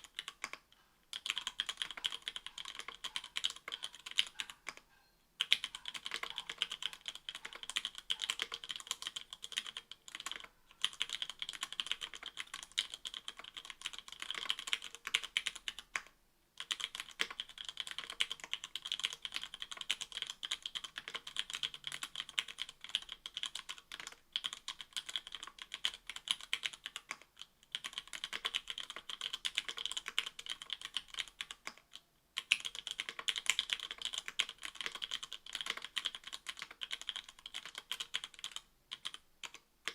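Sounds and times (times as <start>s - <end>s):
mechanical keyboard typing: 0.0s - 4.8s, 5.4s - 39.9s.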